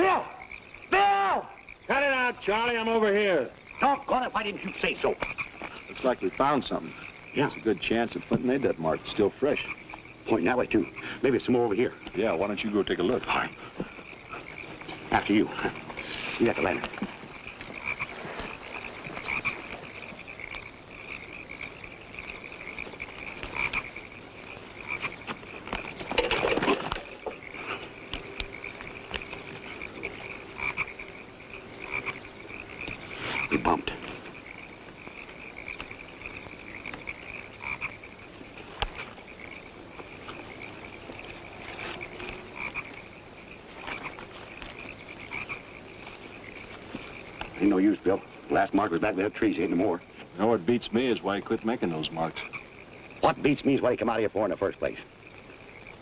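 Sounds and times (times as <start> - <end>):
frogs croaking: 0.0 - 56.0.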